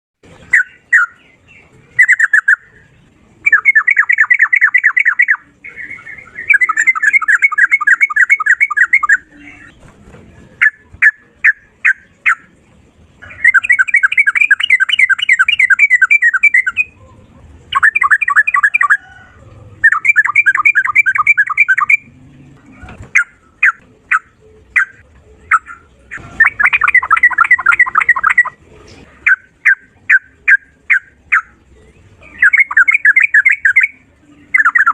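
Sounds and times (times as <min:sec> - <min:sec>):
bird singing rapid runs: 0:00.3 - 0:09.9, 0:10.6 - 0:17.0, 0:17.7 - 0:19.1, 0:19.8 - 0:22.3, 0:23.0 - 0:28.6, 0:29.2 - 0:34.9.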